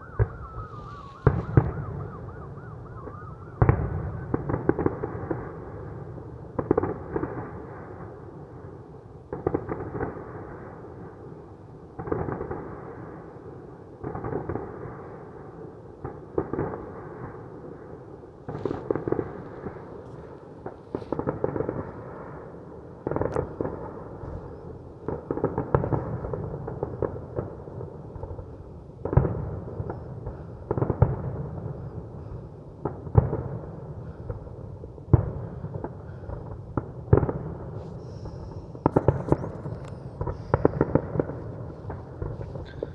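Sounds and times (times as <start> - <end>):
fireworks bangs and crackles: 0.1 - 2.3, 3.0 - 11.4, 12.0 - 42.9.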